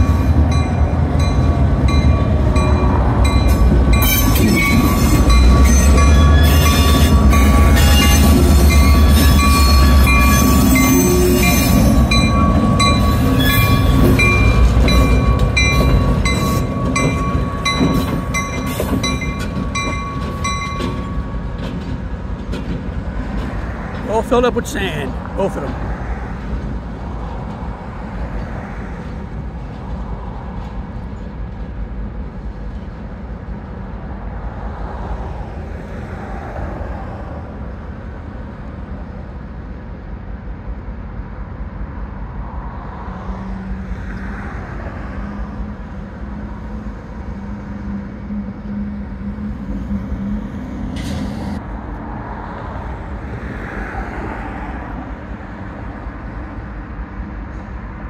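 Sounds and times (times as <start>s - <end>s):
diesel locomotives rumbling: 0.0s - 58.0s
road vehicles passing: 0.0s - 58.0s.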